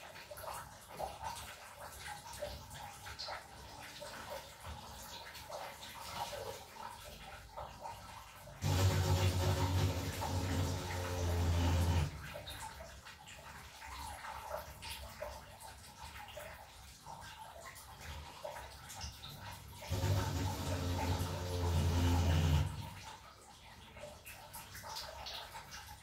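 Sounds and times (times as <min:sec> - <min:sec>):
water rushing and splashing: 0:00.0 - 0:26.0.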